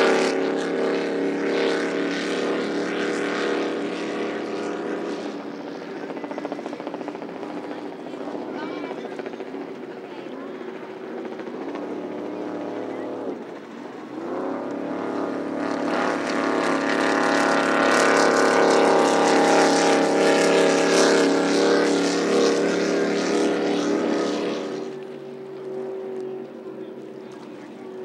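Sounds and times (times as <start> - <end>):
race boat engine at high speed: 0.0 - 28.0.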